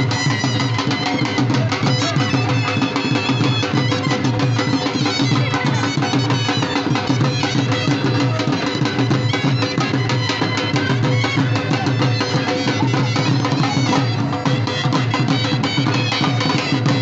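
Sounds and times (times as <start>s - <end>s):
fast dhol drumming music: 0.0s - 17.0s.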